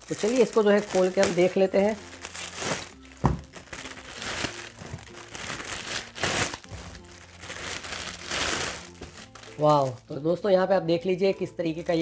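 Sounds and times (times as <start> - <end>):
plastic packaging crinkling: 0.0 - 10.2, 11.3 - 12.0.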